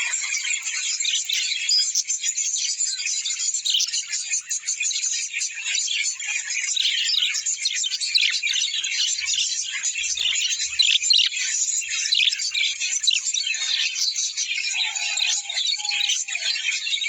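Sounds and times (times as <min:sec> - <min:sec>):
small birds chattering: 0:00.0 - 0:17.0.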